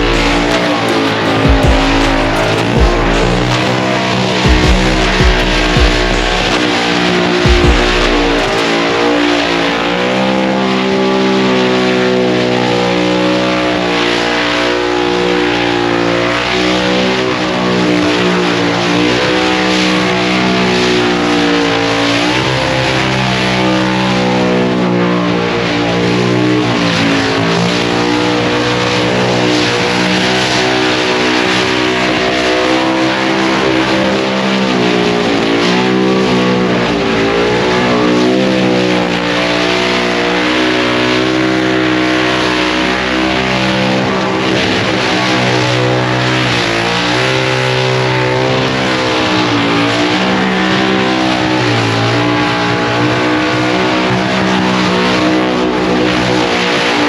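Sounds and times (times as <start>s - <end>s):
car engine revving high: 0.0s - 57.0s.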